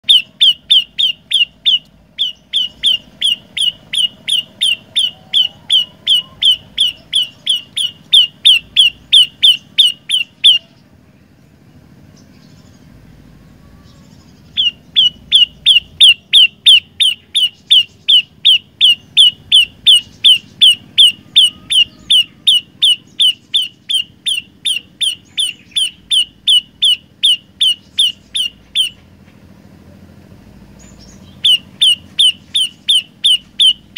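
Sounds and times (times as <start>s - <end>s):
bird calling sharp repeated notes: 0.0s - 11.0s, 12.9s - 29.3s, 30.7s - 33.9s.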